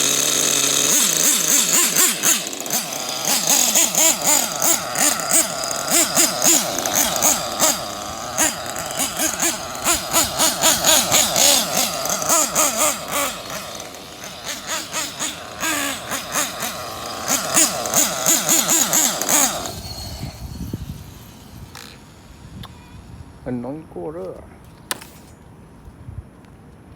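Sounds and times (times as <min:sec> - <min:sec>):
small engine revving: 0:00.0 - 0:23.7.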